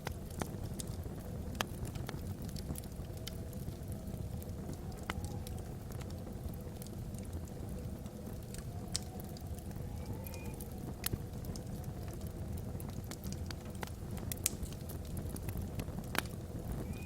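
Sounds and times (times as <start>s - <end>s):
fire flames rumbling: 0.0s - 17.0s
logs crackling and popping: 0.0s - 17.0s
wind howling across chimney: 0.0s - 17.0s.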